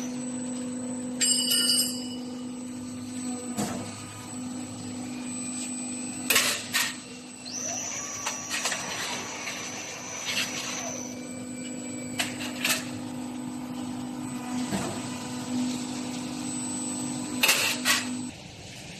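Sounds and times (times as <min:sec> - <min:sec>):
roll forming machine humming: 0:00.0 - 0:18.4.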